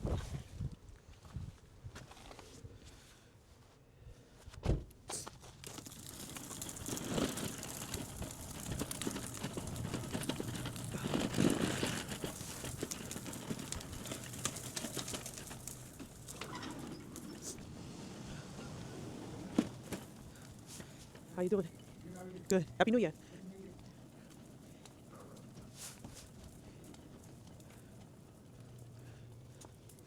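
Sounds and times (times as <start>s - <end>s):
crinkling and rustling: 4.6s - 30.0s.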